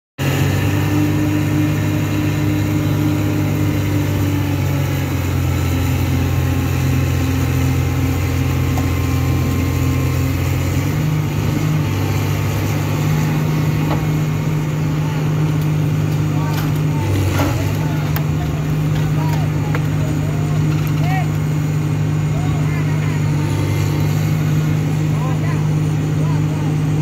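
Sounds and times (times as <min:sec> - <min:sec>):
excavator diesel engine running: 0:00.2 - 0:27.0.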